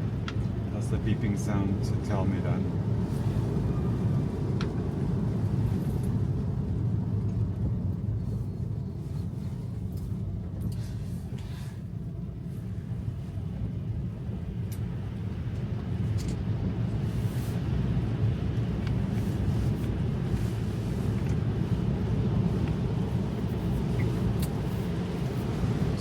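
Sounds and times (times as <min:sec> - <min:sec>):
road and tyre rumble in car: 0:00.0 - 0:26.0.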